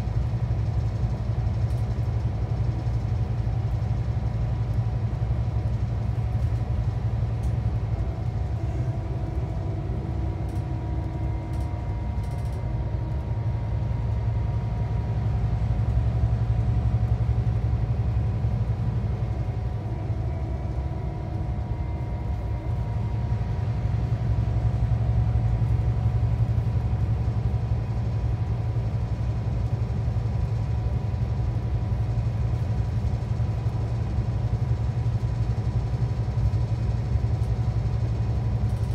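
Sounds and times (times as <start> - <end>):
bus engine and tyre drone: 0.0 - 38.9.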